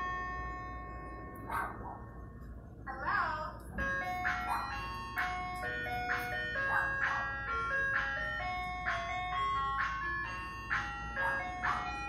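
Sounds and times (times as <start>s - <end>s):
ice cream truck jingle: 0.0s - 12.0s.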